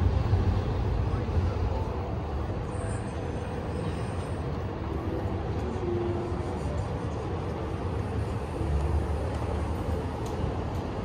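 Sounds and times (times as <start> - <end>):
even background noise: 0.0 - 11.0
traffic rumble: 0.0 - 11.0.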